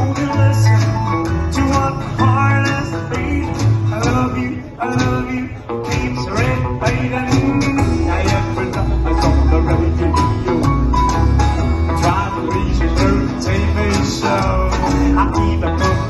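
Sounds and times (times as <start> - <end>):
country band playing: 0.0 - 16.0.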